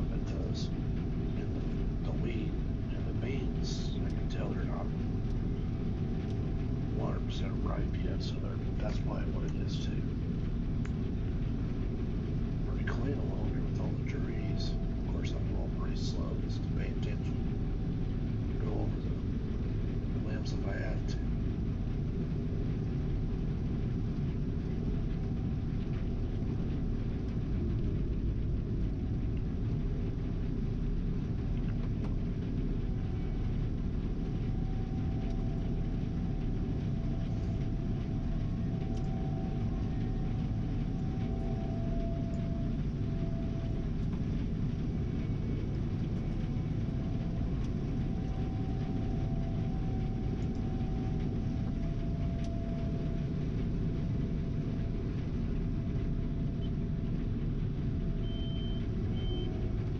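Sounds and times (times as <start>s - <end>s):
combine harvester rumbling: 0.0s - 59.9s
faint machine whining: 0.0s - 59.9s.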